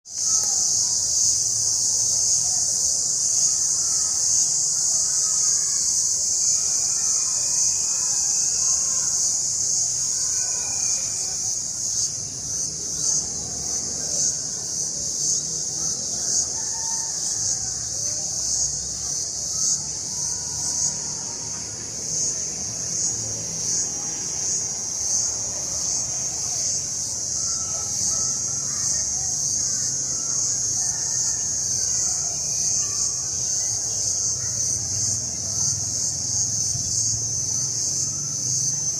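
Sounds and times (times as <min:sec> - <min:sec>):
high-pitched insect chorus: 0:00.1 - 0:38.9.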